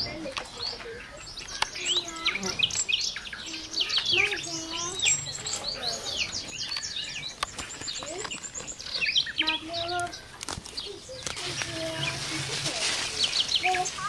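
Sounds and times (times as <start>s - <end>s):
birds chirping and twittering: 0.0s - 14.0s.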